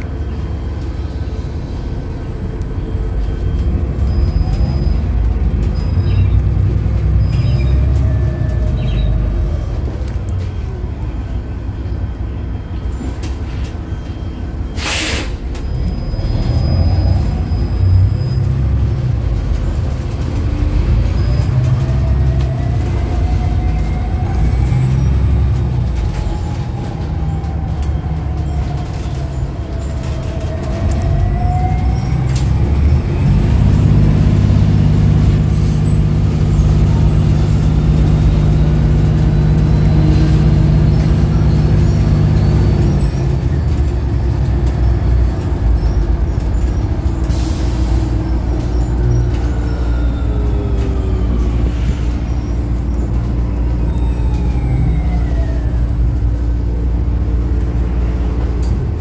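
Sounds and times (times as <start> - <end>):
bus road rumble: 0.0 - 59.0.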